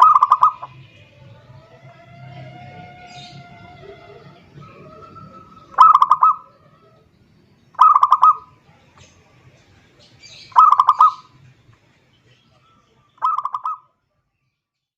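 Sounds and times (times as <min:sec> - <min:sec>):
dove cooing: 0:00.0 - 0:11.4, 0:12.6 - 0:13.8.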